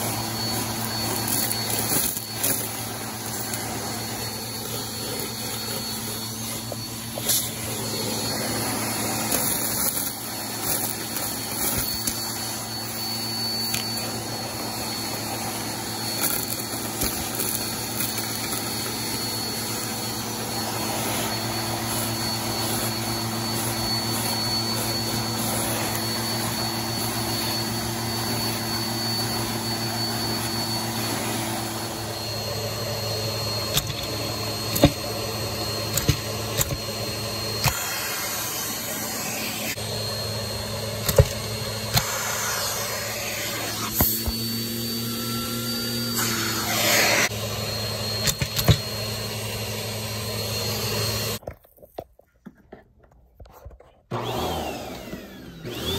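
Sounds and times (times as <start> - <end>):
vacuum cleaner whining: 0.0 - 51.5, 54.1 - 55.9.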